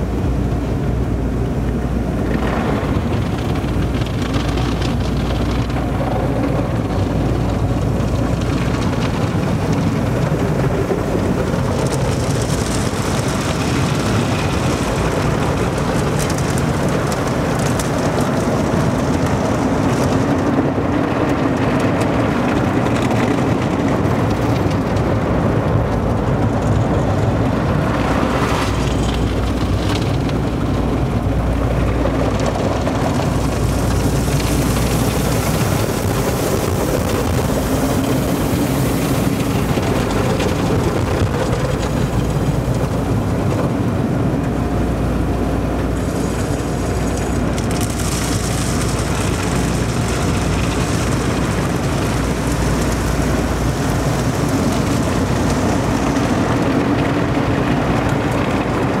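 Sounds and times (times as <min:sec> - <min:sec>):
car wash machinery rumble: 0:00.0 - 0:59.0
water spray drumming on car: 0:01.5 - 0:59.0.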